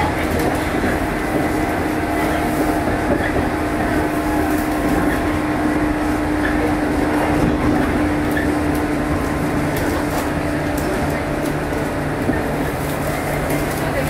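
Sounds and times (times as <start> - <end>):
electric train rumbling: 0.0 - 14.0
train motor hum: 0.0 - 14.0.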